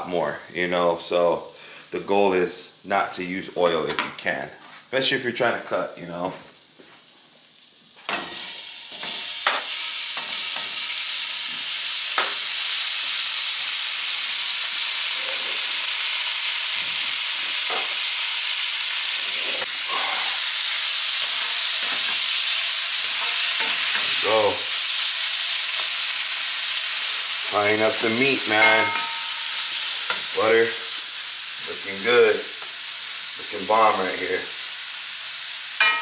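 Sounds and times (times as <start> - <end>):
meat sizzling in a pan: 5.6 - 36.0.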